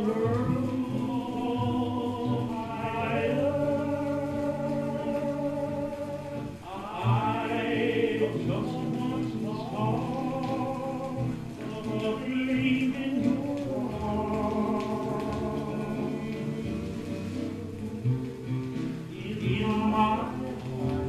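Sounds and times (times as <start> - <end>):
choir singing sustained notes: 0.0 - 17.0.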